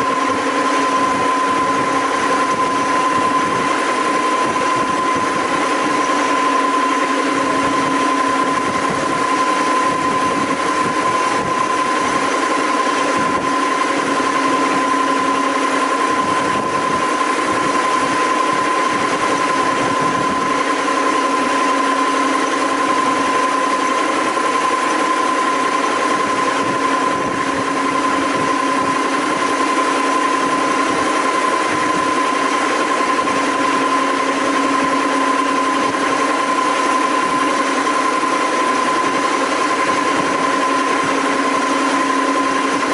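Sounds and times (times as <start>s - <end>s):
brush sander running: 0.0s - 42.9s.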